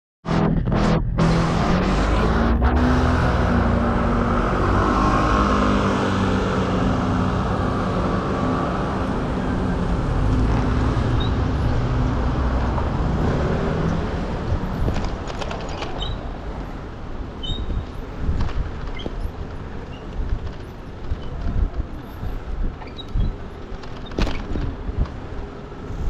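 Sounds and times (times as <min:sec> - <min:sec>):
car engines in city traffic: 0:00.3 - 0:26.0
wind rumble on microphone: 0:00.3 - 0:26.0.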